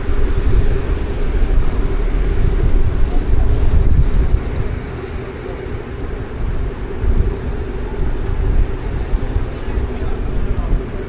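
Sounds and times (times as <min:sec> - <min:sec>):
street traffic: 0:00.0 - 0:11.0
wind buffeting microphone: 0:00.0 - 0:11.0.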